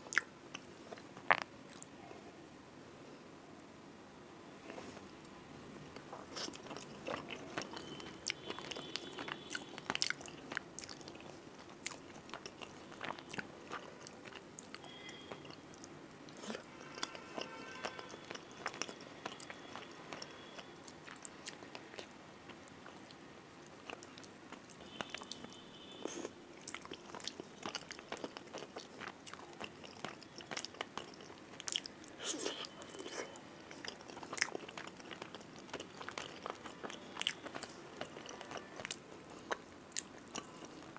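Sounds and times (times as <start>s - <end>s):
close chewing with mouth smacks: 6.0s - 40.9s.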